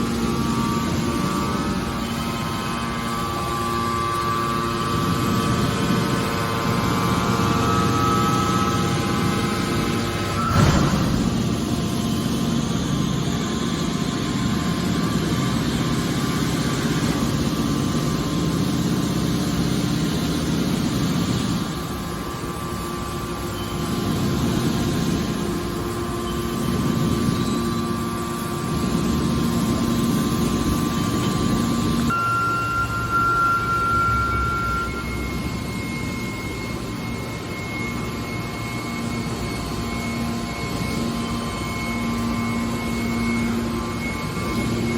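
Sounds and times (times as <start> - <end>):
baler mechanical drone: 0.0 - 44.9
hydraulic pump whine: 0.0 - 44.9.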